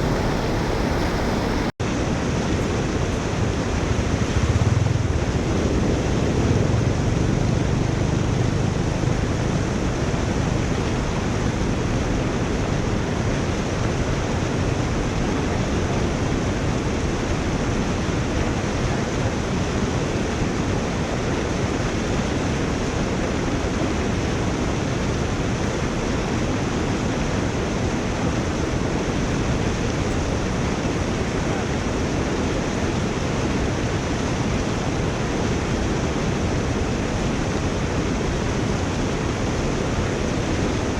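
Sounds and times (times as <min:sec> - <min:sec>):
water rushing through culvert: 0:00.0 - 0:40.9.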